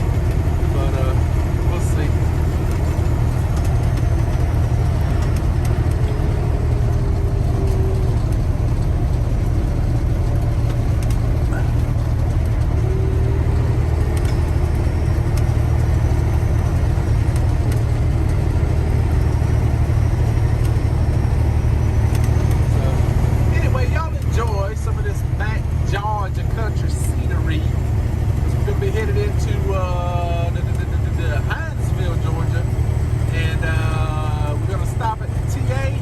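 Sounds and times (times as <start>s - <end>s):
diesel truck engine droning: 0.0s - 36.0s
road noise: 0.0s - 36.0s.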